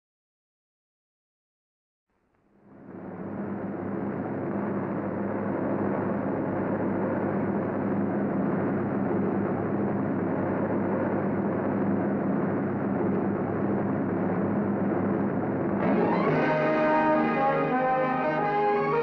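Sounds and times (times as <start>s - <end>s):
aircraft engines droning: 2.7s - 19.0s.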